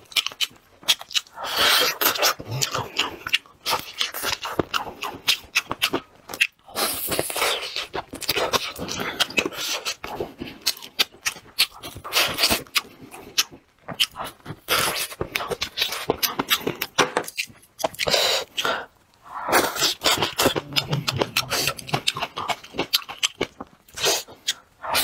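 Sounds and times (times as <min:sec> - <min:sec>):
wet smacking and clicking: 0:00.0 - 0:25.0
sucking at meat: 0:00.8 - 0:05.5, 0:06.6 - 0:16.7, 0:17.8 - 0:25.0.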